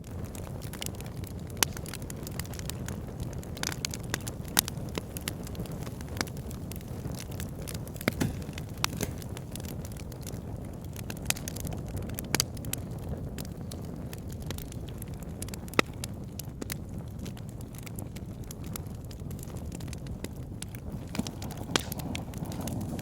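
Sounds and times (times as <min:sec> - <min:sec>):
rushing of flames: 0:00.0 - 0:23.0
wood fire crackling: 0:00.0 - 0:23.0.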